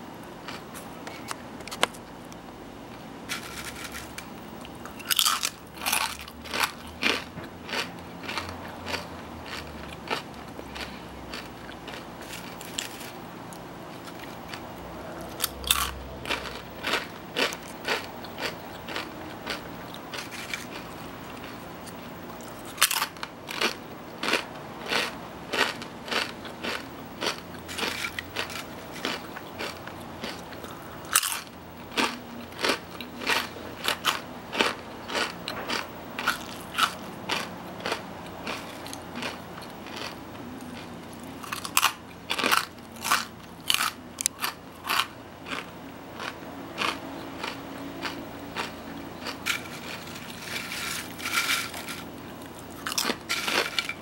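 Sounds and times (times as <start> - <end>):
potato chips crunching: 0.4 - 2.0, 3.3 - 54.0.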